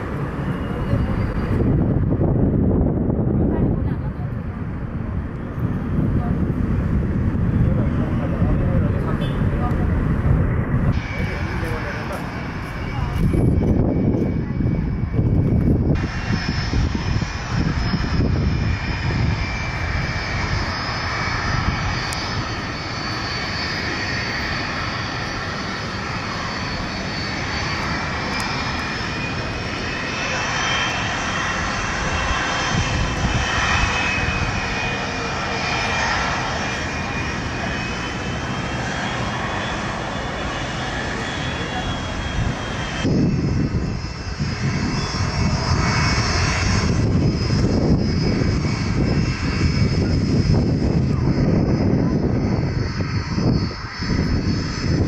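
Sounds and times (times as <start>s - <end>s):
jet engines rumbling with turbine whine: 0.0s - 55.0s.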